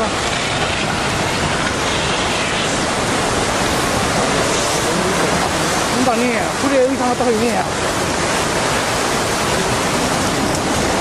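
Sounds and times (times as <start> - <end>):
floodwater rushing roar: 0.0 - 11.0.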